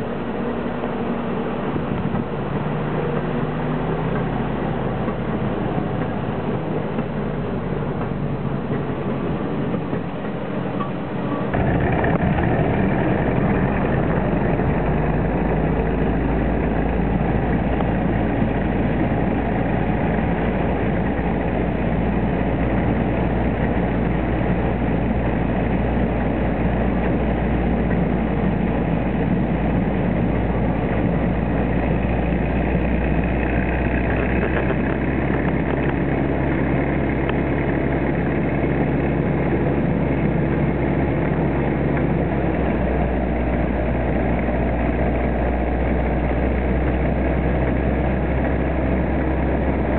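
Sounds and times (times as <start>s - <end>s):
engine running steadily: 0.0s - 49.9s
rail wheels rolling on track: 0.0s - 49.9s.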